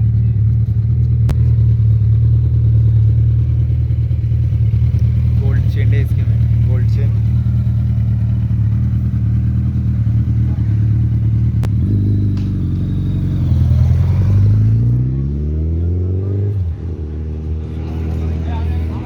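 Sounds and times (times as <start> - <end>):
motorcycle engine revving: 0.0 - 19.0
motorcycle engines idling: 0.0 - 19.0.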